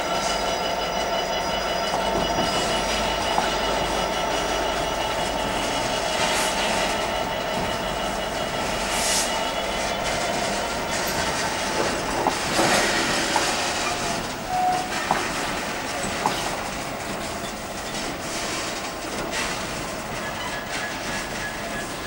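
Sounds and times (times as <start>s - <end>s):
train wheels on rails: 0.0s - 22.0s
wheel squeal: 0.0s - 22.0s.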